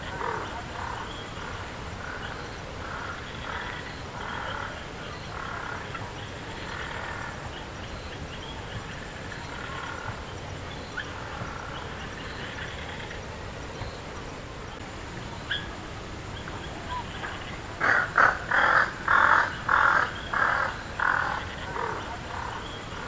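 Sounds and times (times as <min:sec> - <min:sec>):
outdoor background: 0:00.0 - 0:23.0.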